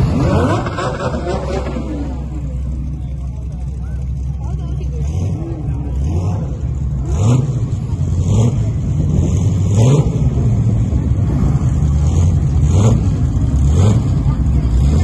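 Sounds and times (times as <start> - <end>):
engine revs: 0.0 - 15.0
sports car engines rolling past: 0.0 - 15.0.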